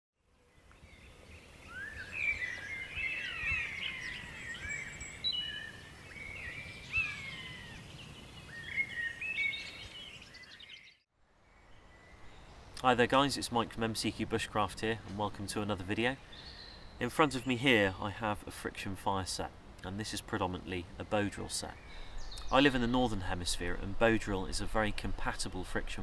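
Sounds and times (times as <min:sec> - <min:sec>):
songbirds singing: 0:00.2 - 0:26.0.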